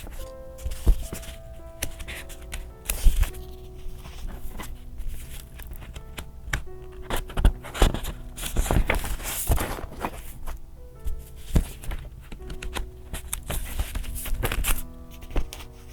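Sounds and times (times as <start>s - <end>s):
paper rustling: 0.0s - 15.9s
soft background music: 0.0s - 15.9s.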